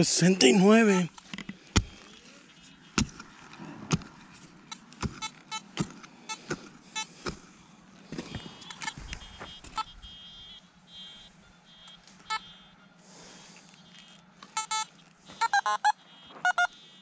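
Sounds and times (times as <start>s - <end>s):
metal detector beeping: 0.3s - 3.6s, 4.6s - 7.2s, 8.2s - 17.0s.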